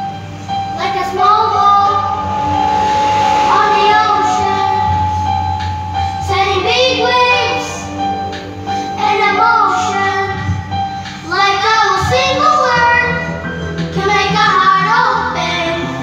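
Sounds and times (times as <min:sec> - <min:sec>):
karaoke backing music: 0:00.0 - 0:16.0.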